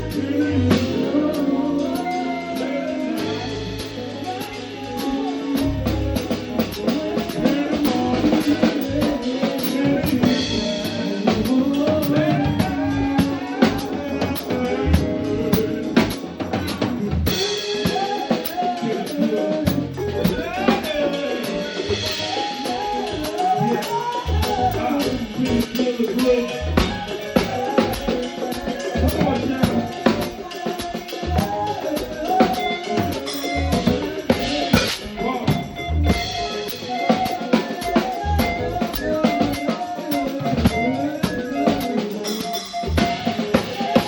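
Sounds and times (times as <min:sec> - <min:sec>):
drum kit beat: 0:00.0 - 0:44.0
live band music: 0:00.0 - 0:44.0.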